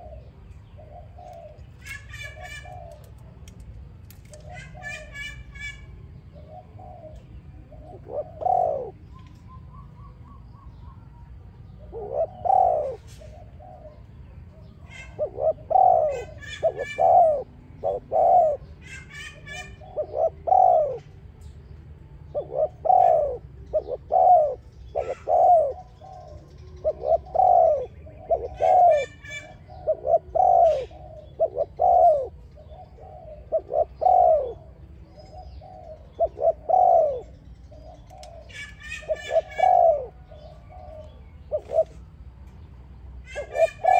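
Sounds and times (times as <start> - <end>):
dove cooing: 0.0 - 3.3, 4.2 - 21.3, 22.2 - 42.2, 43.2 - 43.9
small birds chirping: 0.0 - 43.9.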